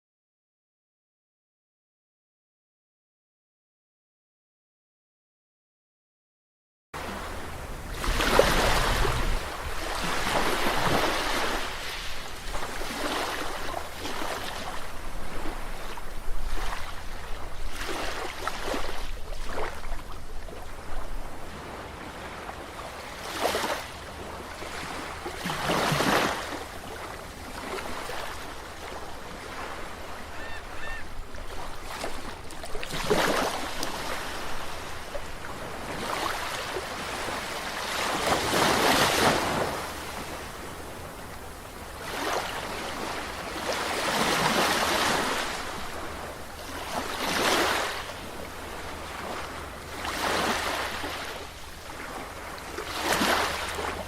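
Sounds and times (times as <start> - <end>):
low rumble of surf: 7.0 - 54.0
ocean waves breaking on shore: 7.0 - 54.0.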